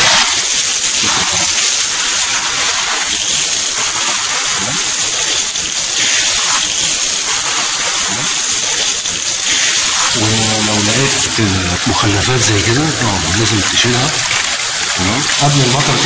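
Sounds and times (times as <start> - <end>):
water from hose splashing on tiles: 0.0 - 16.0
water pouring through drain grating: 0.0 - 16.0.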